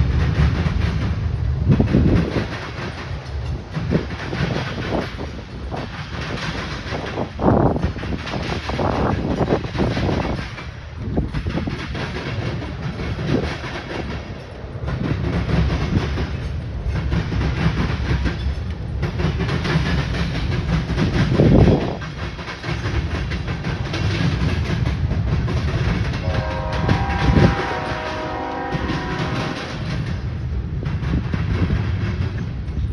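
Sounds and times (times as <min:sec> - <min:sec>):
freight train rumbling: 0:00.0 - 0:32.9
wheels clacking over rails: 0:00.0 - 0:32.9.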